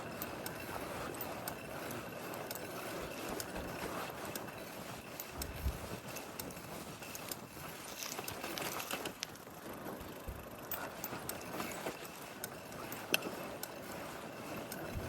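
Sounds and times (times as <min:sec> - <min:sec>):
bicycle ticking and rattling: 0:00.0 - 0:15.0.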